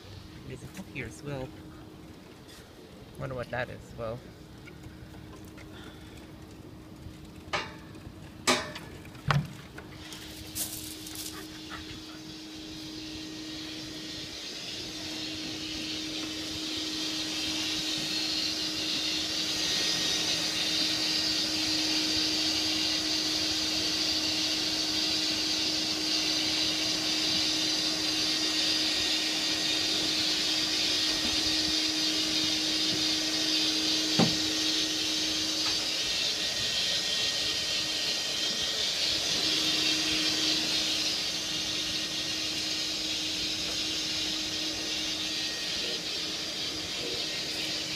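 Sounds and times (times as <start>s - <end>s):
air mover running: 0.0s - 47.9s.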